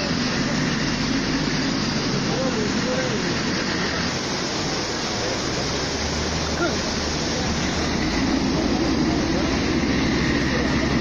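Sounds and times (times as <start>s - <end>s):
river rushing water roar: 0.0s - 11.0s.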